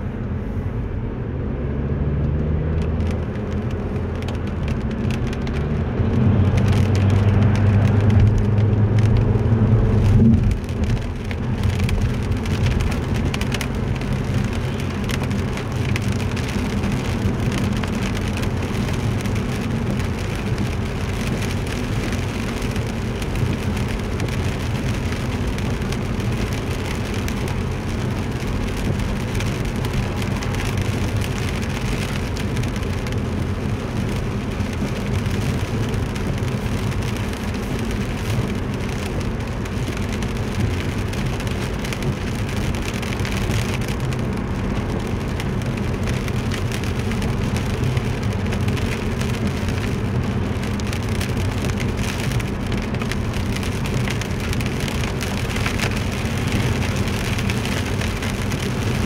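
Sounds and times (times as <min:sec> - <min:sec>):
road and engine drone: 0:00.0 - 0:59.0
tyres on wet road: 0:00.0 - 0:59.0
rain striking car: 0:02.1 - 0:59.0.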